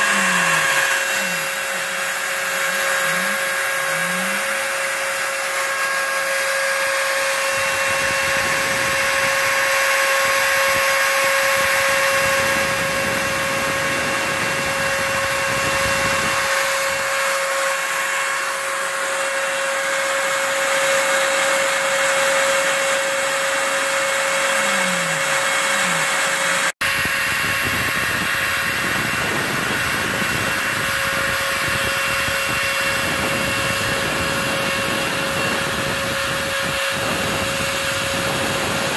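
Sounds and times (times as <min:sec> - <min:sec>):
router spindle whining: 0:00.0 - 0:38.9
shop vacuum rushing: 0:00.0 - 0:38.9.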